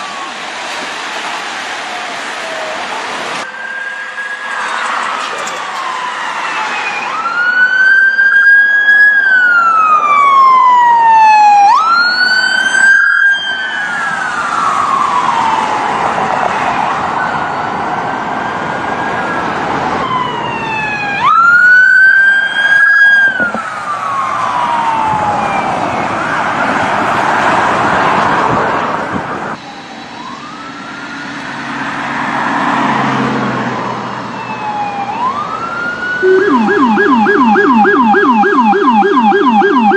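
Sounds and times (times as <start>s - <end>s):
police siren wailing: 0.0s - 27.6s, 29.6s - 32.0s, 33.5s - 39.9s
road and engine noise: 0.0s - 39.9s.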